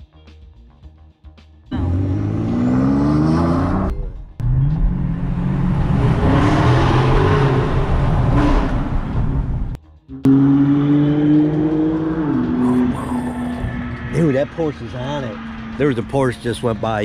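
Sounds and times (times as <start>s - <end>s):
car engine accelerating: 1.7s - 17.0s.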